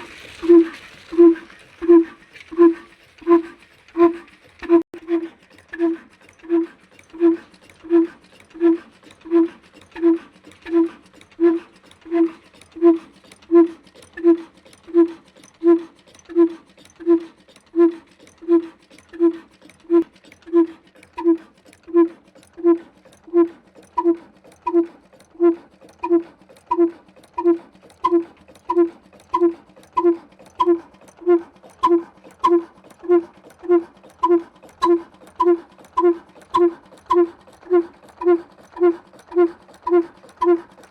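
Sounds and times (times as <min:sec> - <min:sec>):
diesel engine running slowly: 0:00.0 - 0:40.9.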